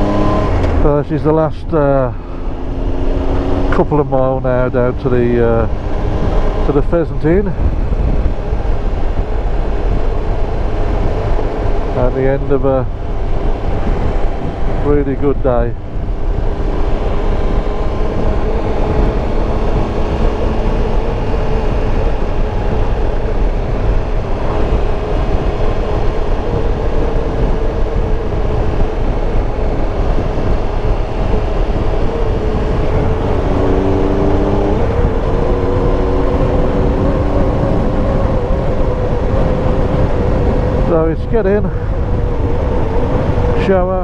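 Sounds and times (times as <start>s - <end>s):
road and wind noise: 0.0s - 44.0s
motorcycle engine running: 2.1s - 44.0s.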